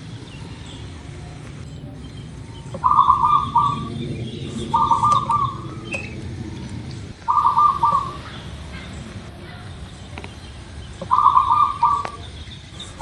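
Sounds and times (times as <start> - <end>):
dove cooing: 0.0 - 13.0
faint bird chirps: 0.0 - 13.0.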